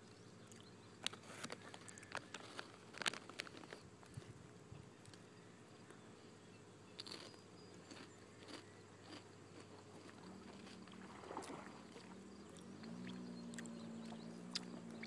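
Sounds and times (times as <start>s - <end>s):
faint motor hum: 0.0s - 15.0s.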